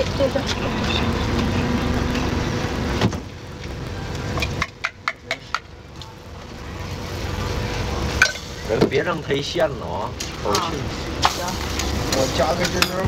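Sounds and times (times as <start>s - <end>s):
street background rumble: 0.0s - 13.0s.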